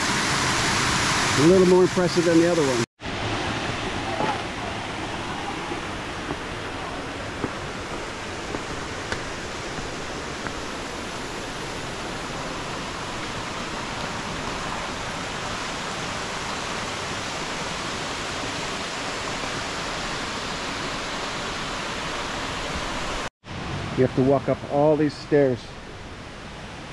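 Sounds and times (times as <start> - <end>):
water rushing from waterfall: 0.0 - 26.9.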